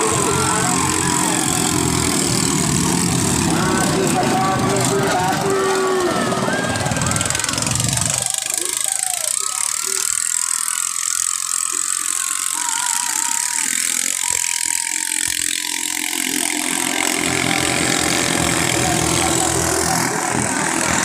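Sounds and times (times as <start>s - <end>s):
longtail boat engines running: 0.0s - 21.0s.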